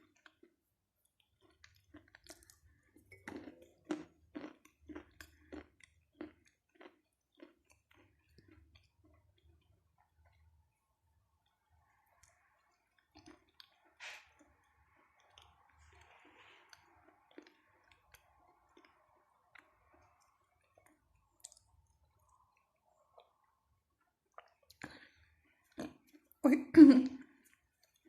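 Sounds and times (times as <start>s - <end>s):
quiet chewing clicks: 0.0s - 26.4s, 27.3s - 28.0s.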